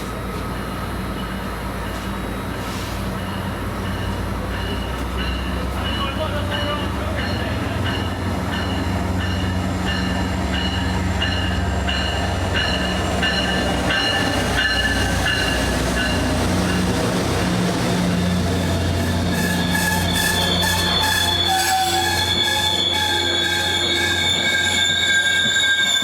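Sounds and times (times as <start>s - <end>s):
train running with low drone: 0.0s - 26.0s.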